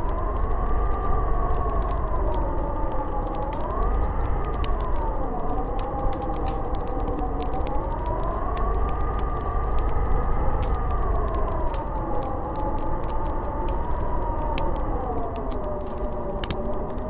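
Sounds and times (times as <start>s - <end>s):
small crackling ticks: 0.0s - 17.0s
wind howling: 0.0s - 17.0s.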